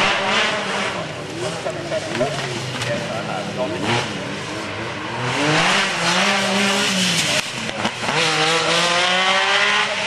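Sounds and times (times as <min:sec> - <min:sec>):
rally car engine at full throttle: 0:00.0 - 0:10.0.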